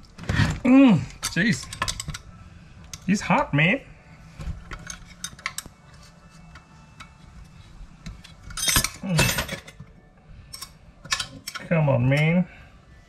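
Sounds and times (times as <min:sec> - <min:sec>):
metal tools clinking and scraping: 0:00.2 - 0:03.5, 0:04.4 - 0:12.5.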